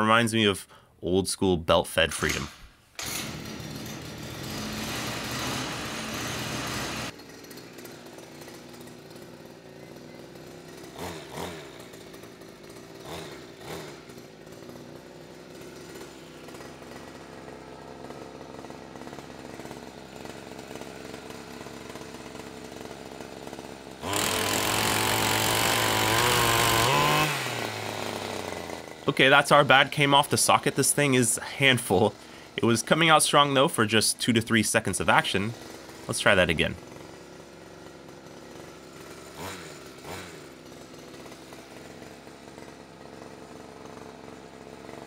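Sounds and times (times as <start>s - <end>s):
two-stroke engine running: 3.0s - 45.0s.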